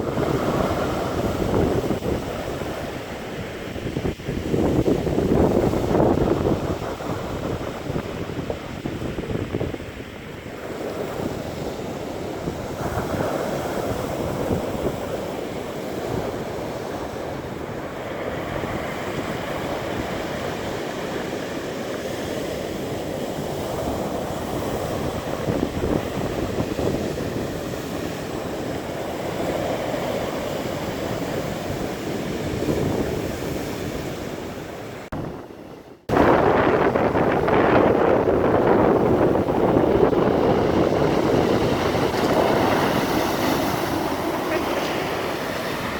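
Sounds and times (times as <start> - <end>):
surf breaking on shore: 0.0 - 45.9
wind buffeting microphone: 0.0 - 45.9.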